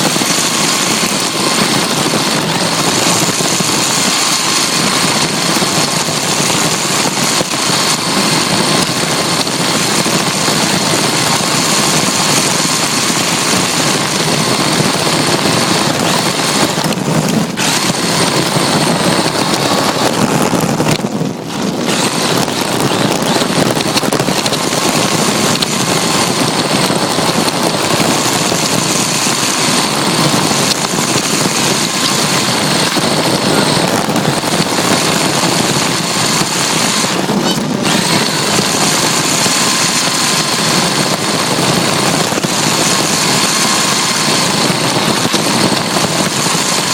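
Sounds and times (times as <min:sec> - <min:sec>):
electric motor whining: 0:00.0 - 0:46.9.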